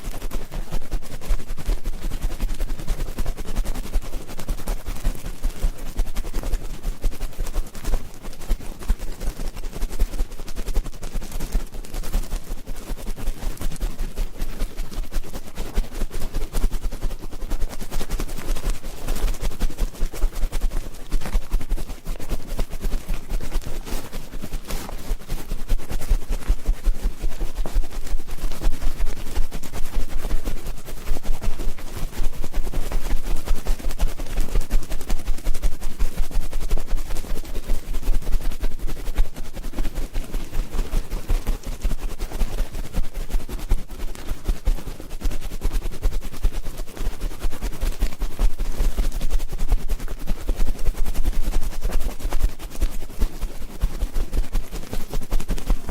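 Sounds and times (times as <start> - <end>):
crackling and scratching on microphone: 0.0 - 55.9.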